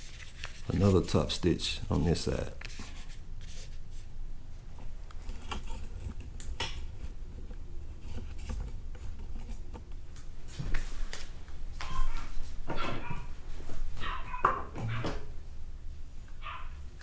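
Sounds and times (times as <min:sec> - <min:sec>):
steady low hum: 0:00.0 - 0:14.4, 0:15.2 - 0:17.0.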